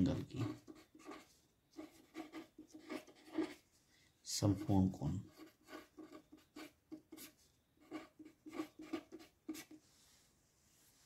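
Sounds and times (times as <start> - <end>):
pen scratching on paper: 0.0 - 3.6, 4.4 - 9.8.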